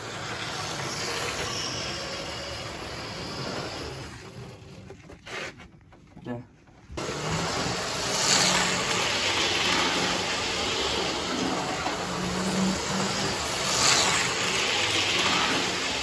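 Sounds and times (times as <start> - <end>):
model train running on track: 0.0 - 4.5, 7.0 - 16.0.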